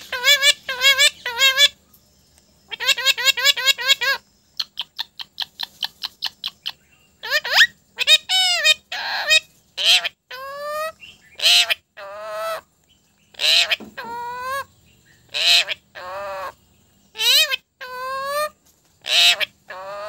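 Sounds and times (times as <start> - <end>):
parrot screeching and calling: 0.0 - 1.8, 2.7 - 4.2, 4.8 - 12.6, 13.3 - 14.7, 15.3 - 20.0.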